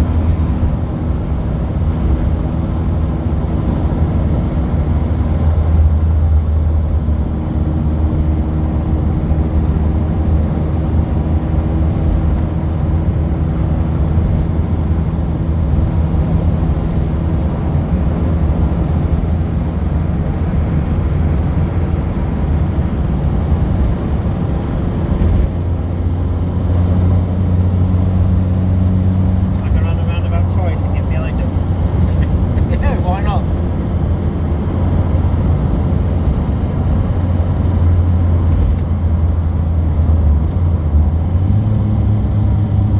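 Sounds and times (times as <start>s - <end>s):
car engine droning: 0.0s - 42.9s
road noise: 0.0s - 42.9s.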